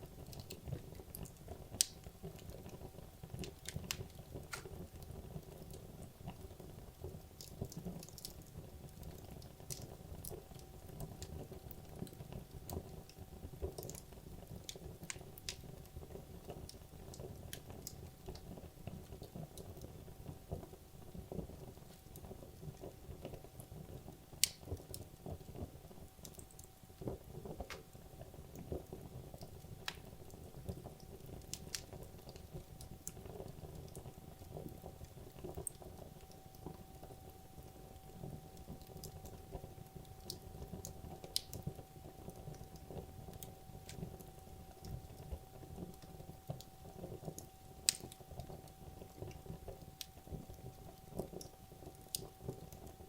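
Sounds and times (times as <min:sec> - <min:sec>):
fire rumbling: 0:00.0 - 0:53.0
wood crackling and popping: 0:00.0 - 0:53.0.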